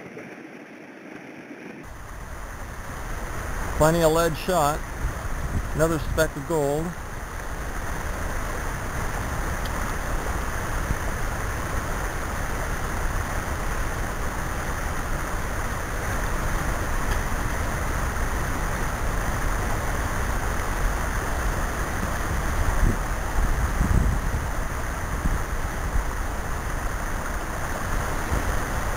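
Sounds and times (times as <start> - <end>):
creek water rushing: 1.8 - 28.9.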